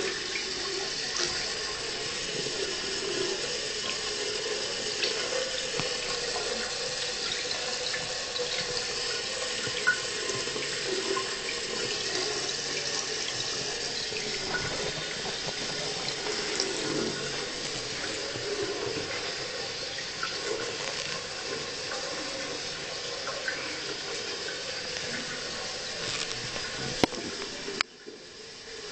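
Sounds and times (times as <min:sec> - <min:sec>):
tap water running into basin: 0:00.0 - 0:28.9.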